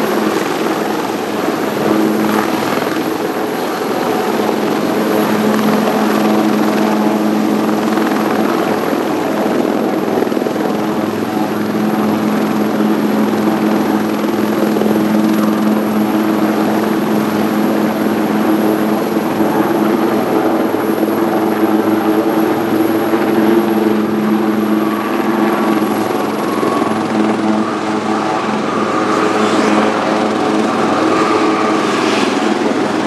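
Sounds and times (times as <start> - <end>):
helicopter rotor and turbine noise: 0.0 - 33.0.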